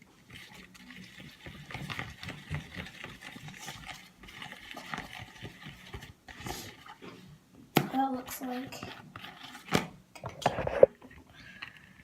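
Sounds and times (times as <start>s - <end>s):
wet squelches of stirring: 0.0s - 12.0s.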